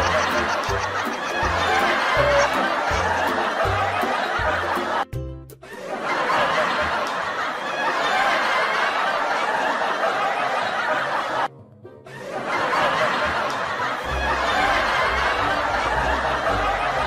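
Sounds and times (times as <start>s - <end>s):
audience laughter: 0.0s - 17.0s.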